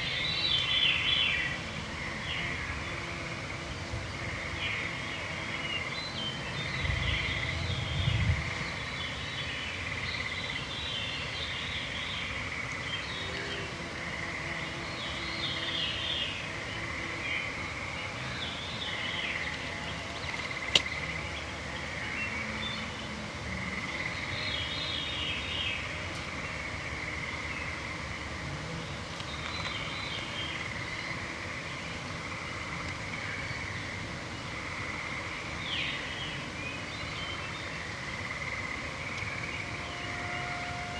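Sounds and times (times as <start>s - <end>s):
frogs and toads trilling: 0.0s - 40.9s
songbirds singing: 0.0s - 40.9s.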